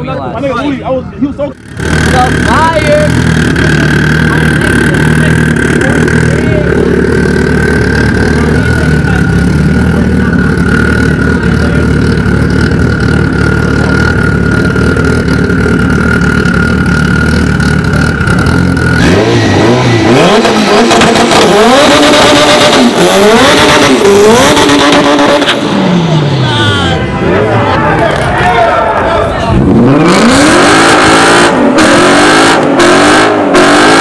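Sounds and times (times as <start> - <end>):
car engine running: 0.2 - 34.0
engine revving: 1.6 - 28.3, 29.4 - 34.0.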